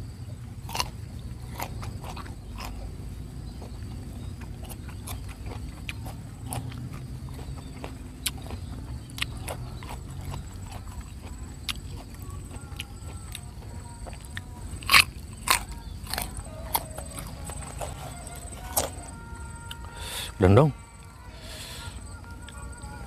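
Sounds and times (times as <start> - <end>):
crunchy fruit chewing: 0.0 - 23.0.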